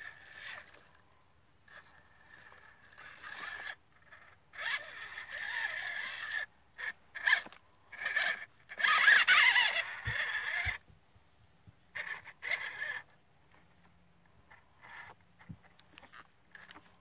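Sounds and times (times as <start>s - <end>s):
toy car electric motor whining: 0.0s - 10.9s, 11.9s - 17.0s.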